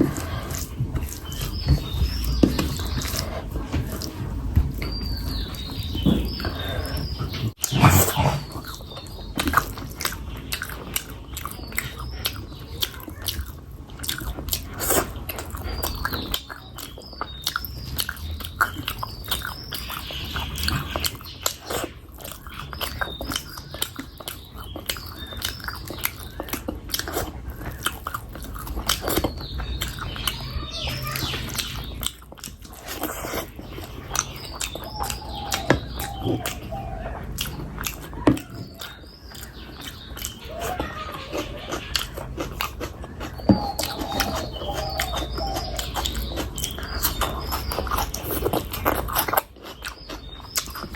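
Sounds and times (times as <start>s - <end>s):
chewing and smacking: 0.0s - 50.9s.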